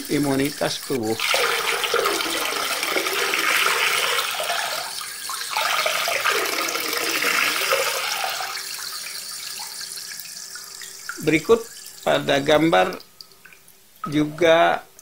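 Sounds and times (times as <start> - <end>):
faint steady hum: 0.0 - 15.0
running water splashing: 0.0 - 15.0.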